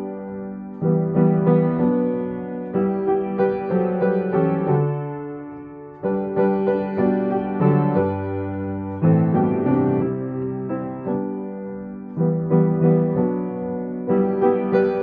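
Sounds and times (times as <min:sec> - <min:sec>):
solo piano hymn chords: 0:00.0 - 0:15.0.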